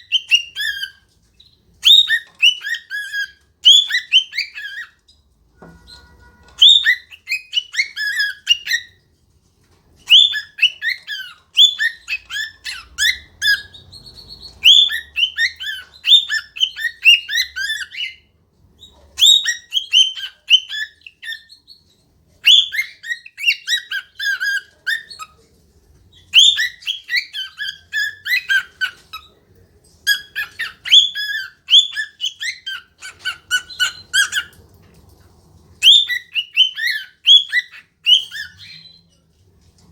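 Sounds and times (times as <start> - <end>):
cockatiel singing and chattering: 0.0 - 9.1, 10.0 - 25.5, 26.1 - 29.4, 30.0 - 34.6, 35.8 - 39.2.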